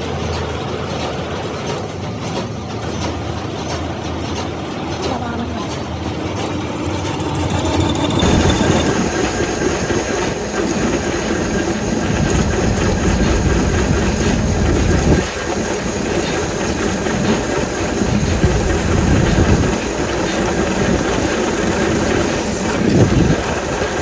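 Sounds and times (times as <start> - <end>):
factory machinery clatter and rumble: 0.0 - 24.0.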